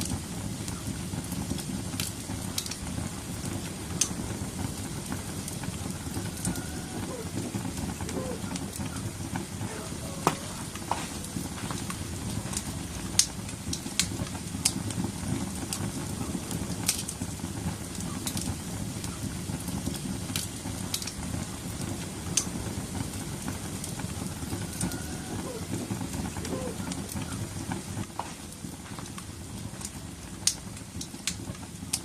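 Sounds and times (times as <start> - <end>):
bonfire burning with low rush: 0.0 - 32.0
fire crackles and pops: 0.0 - 32.0.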